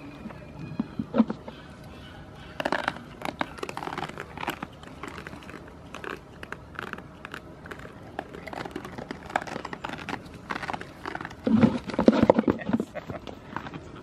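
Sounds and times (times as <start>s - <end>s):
goats chewing and crunching: 0.0s - 14.0s.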